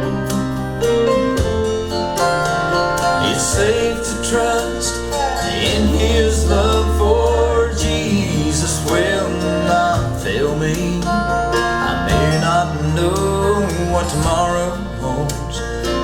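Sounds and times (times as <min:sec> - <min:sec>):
country gospel song on speakers: 0:00.0 - 0:16.0.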